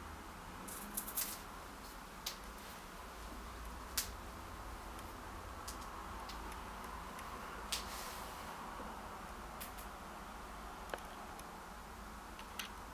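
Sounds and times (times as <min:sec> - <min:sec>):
faint hiss: 0:00.0 - 0:12.9.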